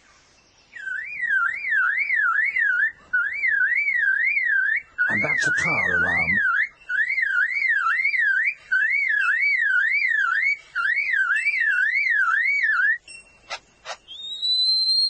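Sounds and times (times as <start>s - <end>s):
bird mimicking a car alarm: 0.7s - 15.0s.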